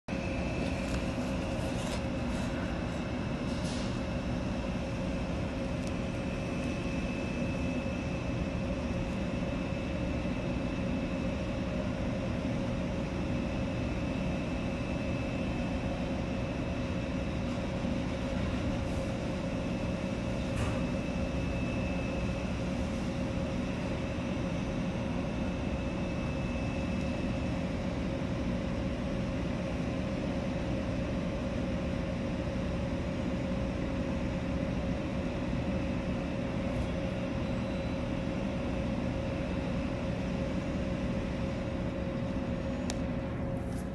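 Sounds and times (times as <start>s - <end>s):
ship engine drone: 0.1s - 43.9s.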